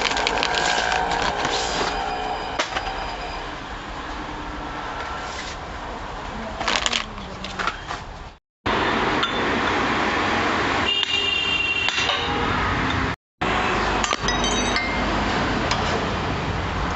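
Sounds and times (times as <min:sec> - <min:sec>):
steady workshop noise: 0:00.0 - 0:06.1, 0:07.5 - 0:16.9.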